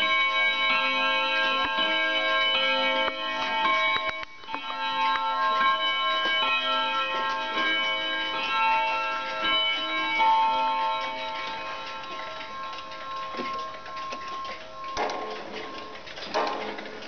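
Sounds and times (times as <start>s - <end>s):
clock ticking: 0.0s - 17.0s
clocks striking gongs and bells: 0.0s - 17.0s.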